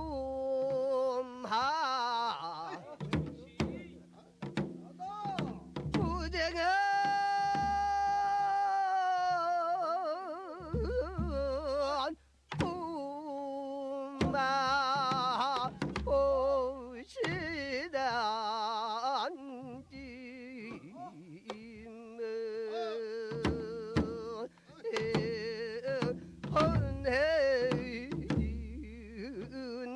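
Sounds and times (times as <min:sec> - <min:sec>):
woman singing a lament: 0:00.0 - 0:03.0, 0:06.0 - 0:29.9.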